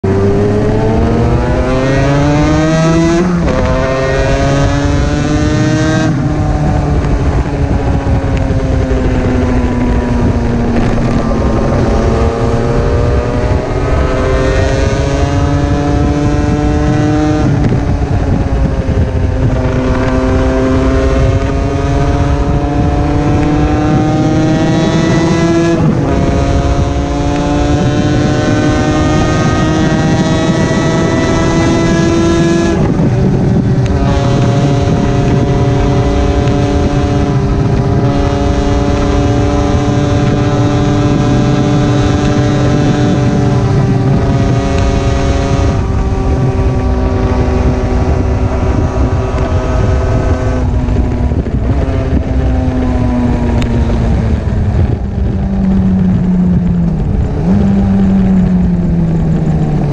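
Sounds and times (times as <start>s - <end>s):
motorcycle engine revving: 0.0s - 59.9s
wind rushing over microphone: 0.0s - 59.9s.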